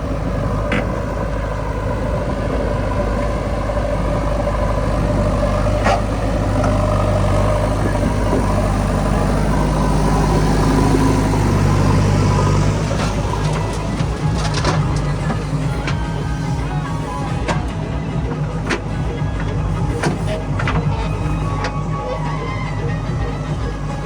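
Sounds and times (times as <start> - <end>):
diesel engine running: 0.0 - 24.0
high squeaks: 2.6 - 24.0.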